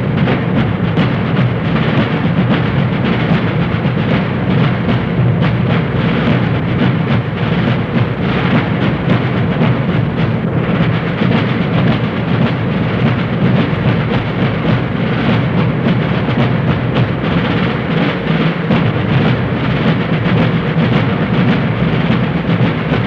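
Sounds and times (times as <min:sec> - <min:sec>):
military field drums playing: 0:00.0 - 0:23.0.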